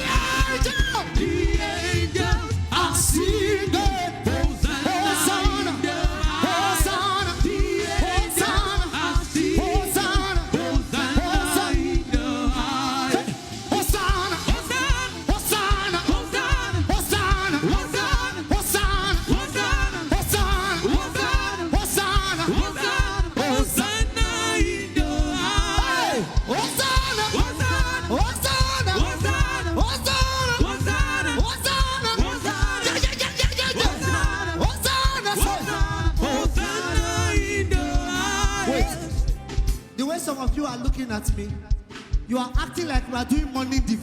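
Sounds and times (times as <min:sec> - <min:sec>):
person singing: 0:00.0 - 0:41.5
band playing gospel music: 0:00.0 - 0:44.0.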